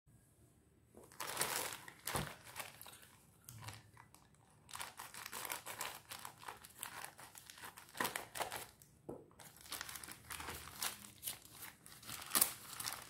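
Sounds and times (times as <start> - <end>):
plastic mailer bag crinkling: 1.1 - 8.8, 9.4 - 13.0.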